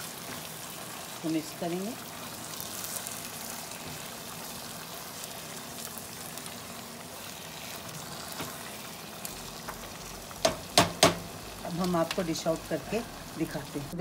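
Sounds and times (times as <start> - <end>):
curry sizzling in a pot: 0.0 - 14.0.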